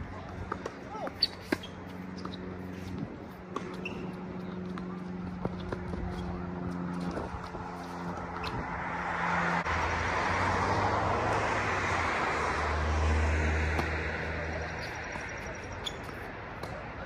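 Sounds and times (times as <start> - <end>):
vehicle passing: 1.4 - 16.6.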